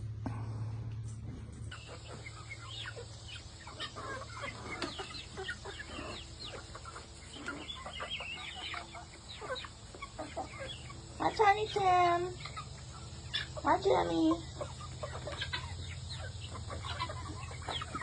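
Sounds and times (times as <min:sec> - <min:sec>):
chickens clucking: 0:00.2 - 0:18.0.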